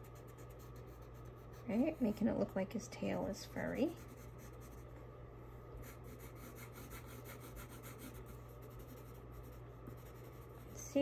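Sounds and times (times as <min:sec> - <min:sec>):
colored pencil scratching on paper: 0:00.0 - 0:02.5, 0:03.3 - 0:04.9, 0:05.8 - 0:11.0.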